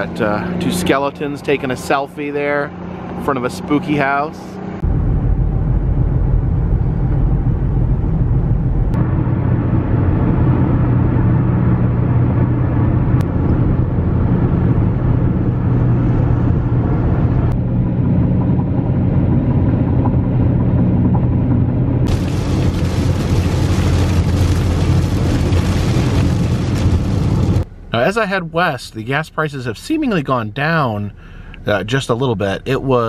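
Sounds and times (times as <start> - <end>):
car cabin road noise: 0.0 - 33.0.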